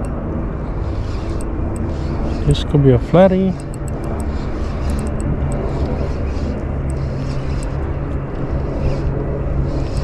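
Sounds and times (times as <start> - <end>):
low engine drone: 0.0 - 10.0.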